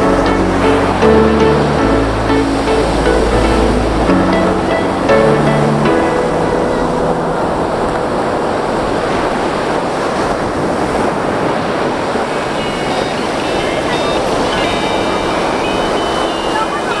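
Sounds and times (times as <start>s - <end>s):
ocean surf breaking on shore: 0.0s - 17.0s.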